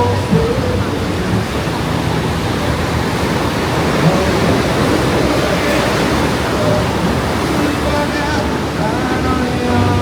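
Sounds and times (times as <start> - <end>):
faint voices: 0.0 - 10.0
surf breaking on beach: 0.0 - 10.0.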